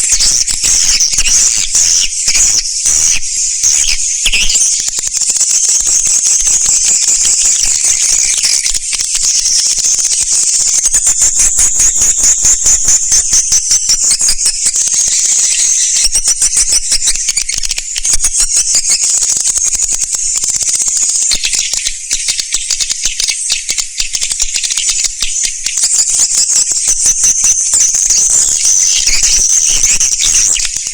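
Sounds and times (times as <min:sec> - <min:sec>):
birds twittering: 0:00.0 - 0:30.9.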